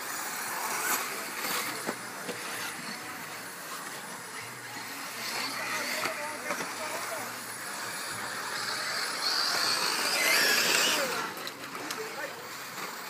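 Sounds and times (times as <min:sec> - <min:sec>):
electric motors whining: 0:00.0 - 0:13.0
rc cars knocking: 0:00.0 - 0:13.0.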